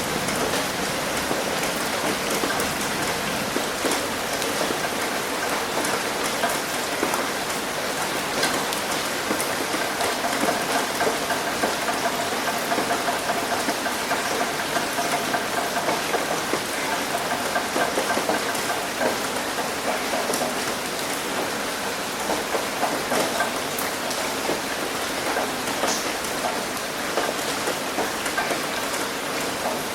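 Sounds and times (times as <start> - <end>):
rain pattering on a roof: 0.0 - 29.9.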